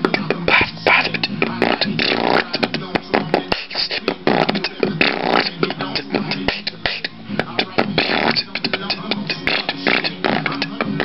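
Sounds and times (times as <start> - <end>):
beatboxing mouth clicks and pops: 0.0 - 11.0
short pitched vocal sounds: 0.0 - 11.0.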